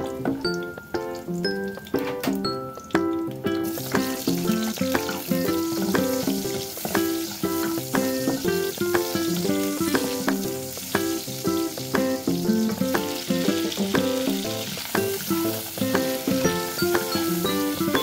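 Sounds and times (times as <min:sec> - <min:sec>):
light plucked instrumental music: 0:00.0 - 0:18.0
onion and garlic frying in oil: 0:00.0 - 0:18.0.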